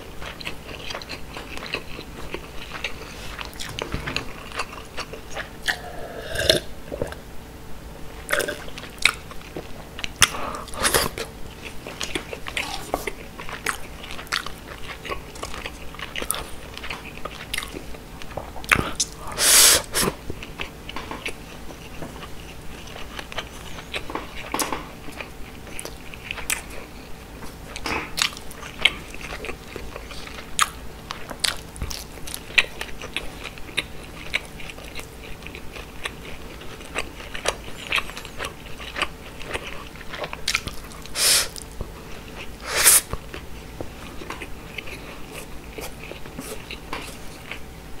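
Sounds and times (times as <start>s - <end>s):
person chewing food: 0.0s - 7.2s, 8.2s - 47.7s.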